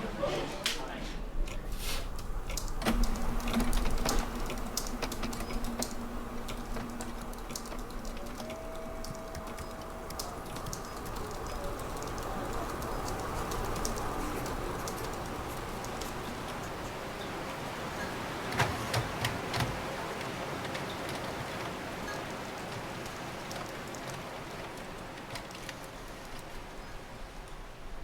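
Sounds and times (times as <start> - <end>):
office background noise: 0.0 - 27.4.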